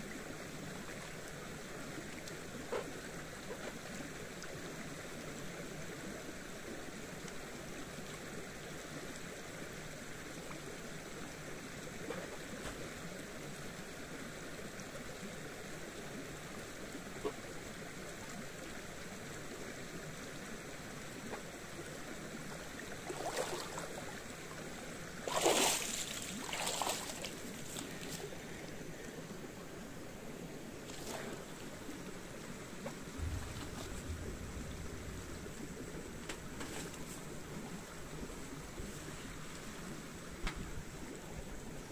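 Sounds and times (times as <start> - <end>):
running water: 0.0 - 41.9.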